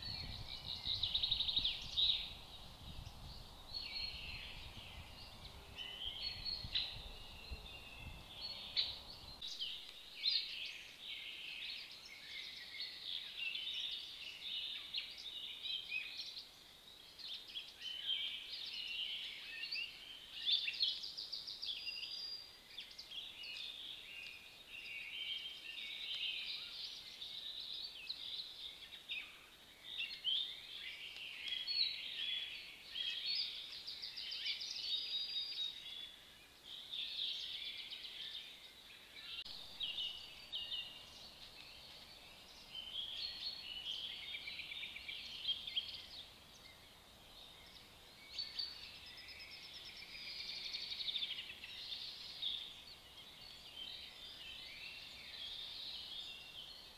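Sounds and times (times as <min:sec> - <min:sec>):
faint steady hiss: 0:00.0 - 0:56.9
songbirds chirping and trilling: 0:00.0 - 0:56.9.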